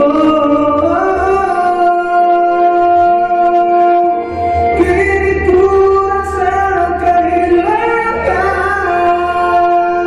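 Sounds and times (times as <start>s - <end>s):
man singing: 0.0s - 10.0s.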